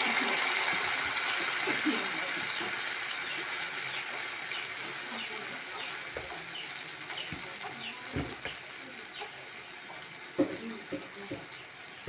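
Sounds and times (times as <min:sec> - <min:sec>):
batter frying in hot oil: 0:00.0 - 0:12.0.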